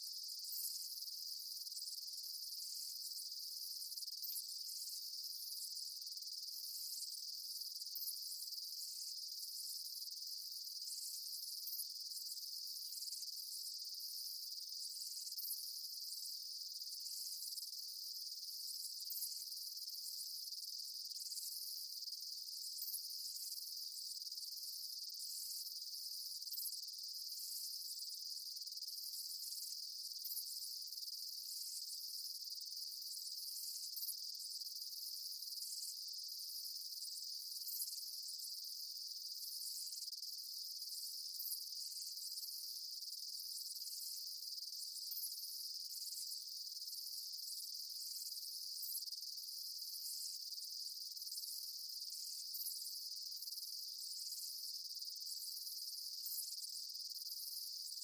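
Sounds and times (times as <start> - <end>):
high insect chirps: 0.0 - 58.0
insects trilling: 0.0 - 58.0.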